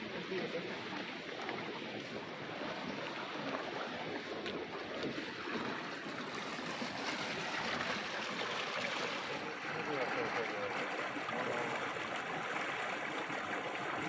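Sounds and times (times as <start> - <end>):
small waves lapping at a dock: 0.0 - 14.0.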